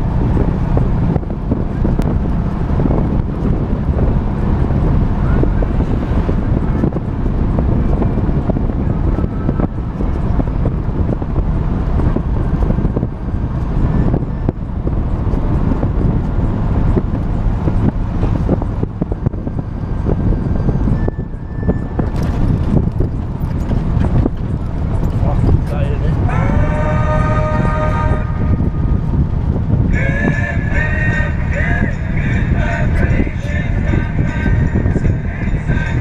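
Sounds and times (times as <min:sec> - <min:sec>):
motor trike engine running: 0:00.0 - 0:36.0
wind noise on microphone: 0:00.0 - 0:36.0.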